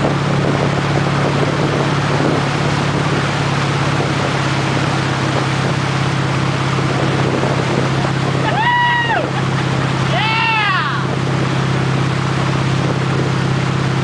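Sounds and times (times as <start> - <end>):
motorboat engine humming: 0.0 - 14.0
water churning in wake: 0.0 - 14.0
wind on microphone: 0.0 - 14.0.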